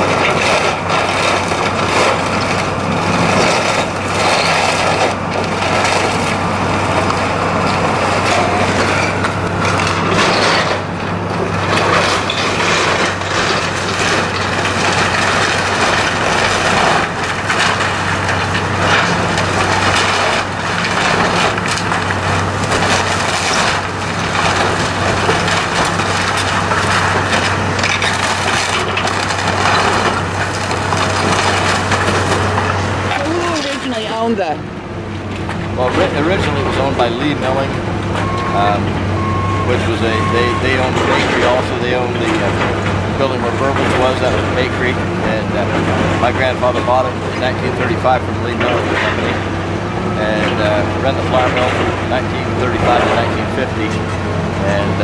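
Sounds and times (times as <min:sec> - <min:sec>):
heavy machine engine humming: 0:00.0 - 0:55.0
timber crushing and splintering: 0:00.0 - 0:55.0.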